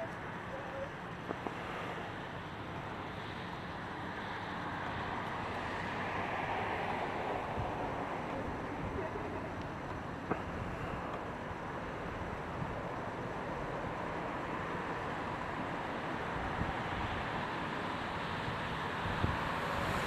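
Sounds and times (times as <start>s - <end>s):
distant city traffic: 0.0s - 20.0s.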